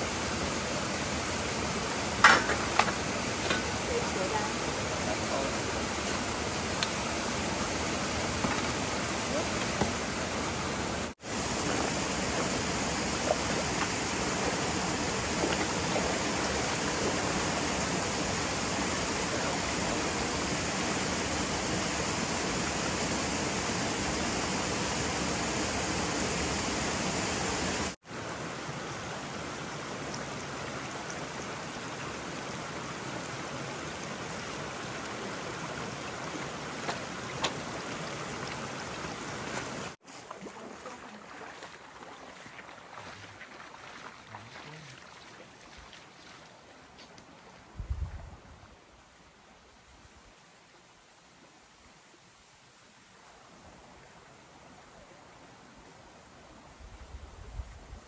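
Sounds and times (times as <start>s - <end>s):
stream water rushing: 0.0s - 57.6s.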